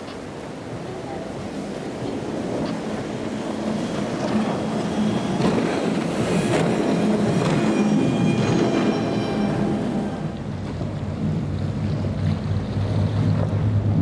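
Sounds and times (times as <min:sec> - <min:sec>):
hull rushing through water: 0:00.0 - 0:14.0
outboard engine drone: 0:00.1 - 0:14.0.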